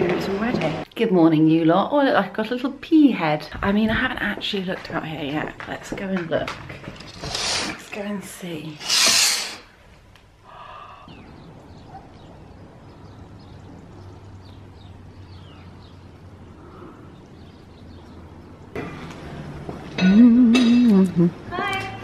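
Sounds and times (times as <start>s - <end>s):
indoor room noise: 0.0s - 22.0s.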